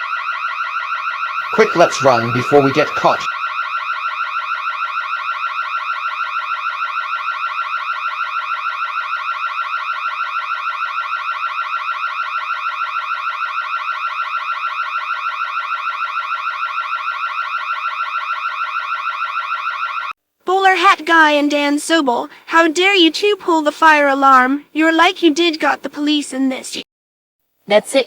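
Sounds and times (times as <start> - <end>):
fire alarm pulsing tone: 0.0 - 25.1.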